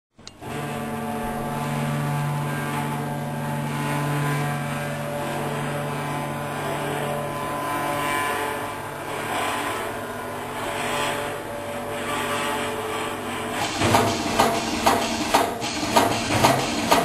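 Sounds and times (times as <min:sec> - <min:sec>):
machine hum: 0:00.2 - 0:17.0.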